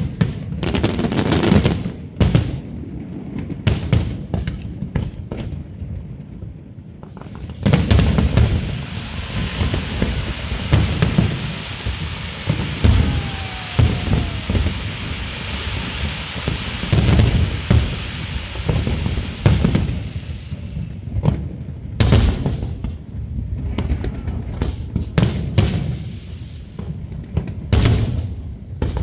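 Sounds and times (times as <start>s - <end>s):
fireworks bangs and crackles: 0.0s - 29.0s
hissing firework fountains: 0.0s - 29.0s.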